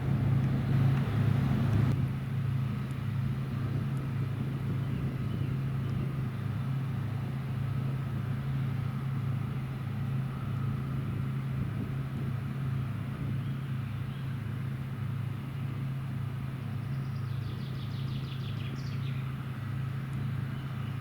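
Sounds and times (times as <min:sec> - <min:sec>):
broad rushing noise: 0:00.0 - 0:21.0
pulsing engine hum: 0:00.0 - 0:21.0.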